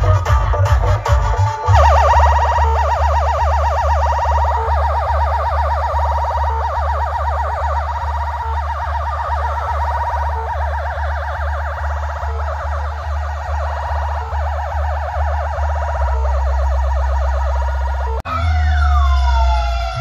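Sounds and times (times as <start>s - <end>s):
deep pulsing bass: 0.0s - 20.0s
warbling electronic siren tone: 1.6s - 20.0s.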